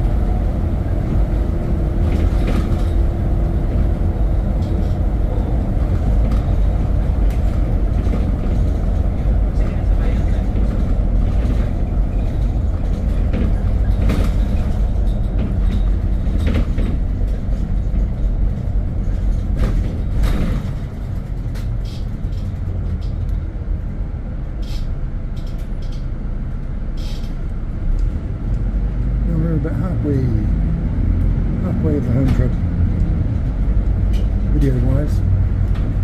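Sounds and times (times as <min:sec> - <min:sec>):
road vehicle rumble: 0:00.0 - 0:36.0.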